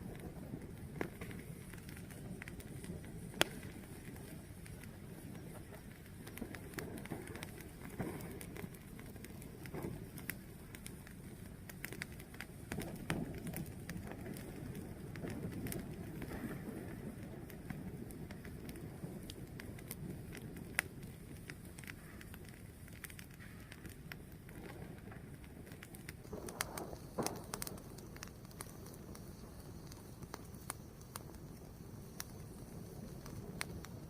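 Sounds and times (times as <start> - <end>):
fire burning with low rush: 0.0 - 34.0
fire crackling and popping: 0.0 - 34.0.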